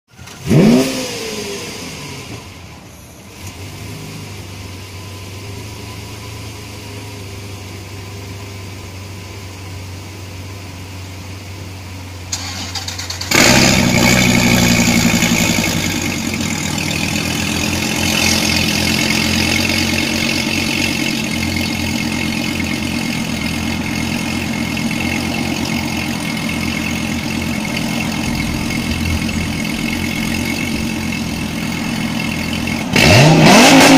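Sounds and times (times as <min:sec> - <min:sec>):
car engine starting and idling: 0:00.1 - 0:33.9.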